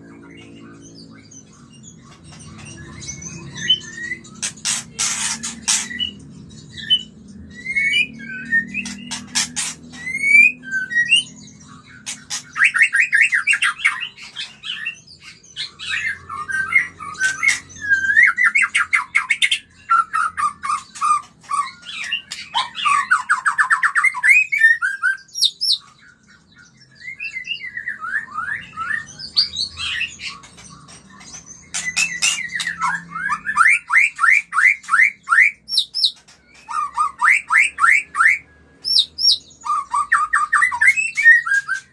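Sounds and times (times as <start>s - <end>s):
bird song with whistles and trills: 0.0s - 41.9s.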